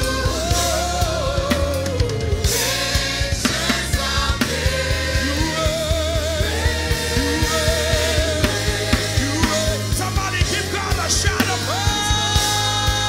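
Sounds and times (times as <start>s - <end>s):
band with drums and bass: 0.0s - 13.0s.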